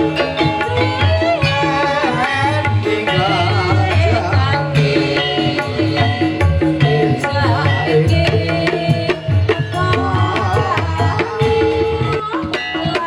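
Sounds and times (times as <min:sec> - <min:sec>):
hand drums rhythmic pattern: 0:00.0 - 0:13.0.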